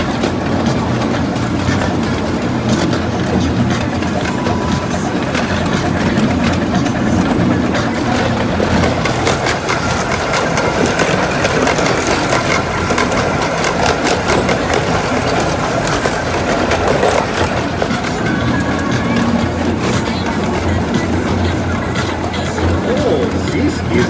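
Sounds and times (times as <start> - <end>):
small train engine hum: 0.0 - 24.0
wheels clicking on track: 0.0 - 24.0.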